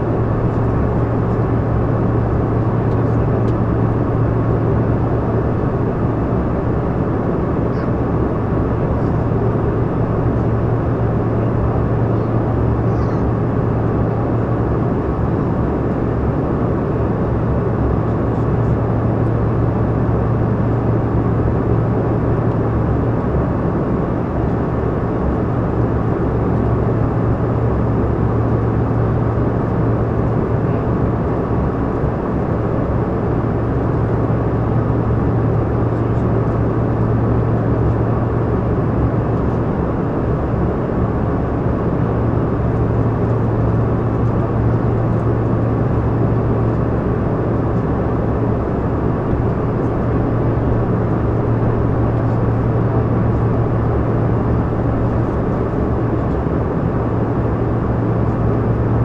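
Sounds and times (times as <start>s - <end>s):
constant low hum: 0.0s - 59.0s
jet engines droning: 0.0s - 59.0s.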